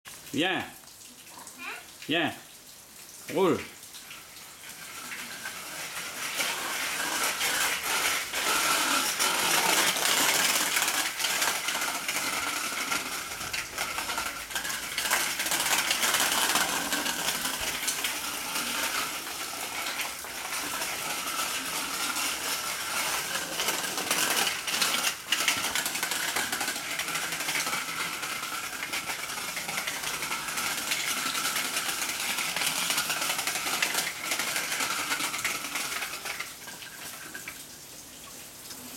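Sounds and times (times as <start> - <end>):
bicycle rattling over pavement: 4.8 - 37.5.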